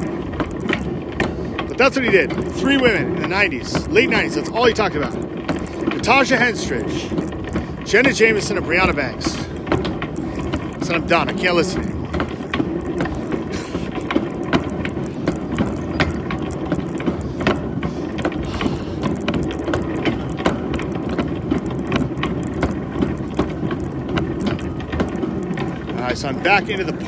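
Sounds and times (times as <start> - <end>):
shopping cart rattling on pavement: 0.0 - 27.0.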